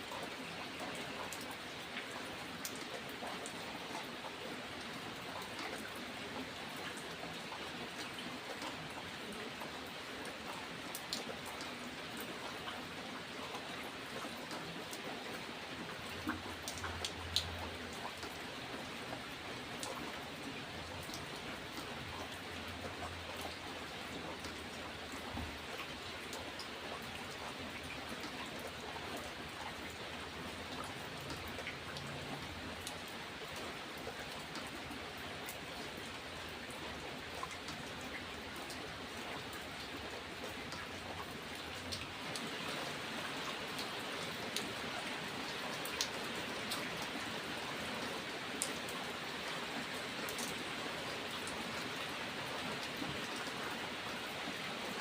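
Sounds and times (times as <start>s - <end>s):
raindrops ticking on a surface: 0.0s - 55.0s
steady rain falling: 0.0s - 55.0s.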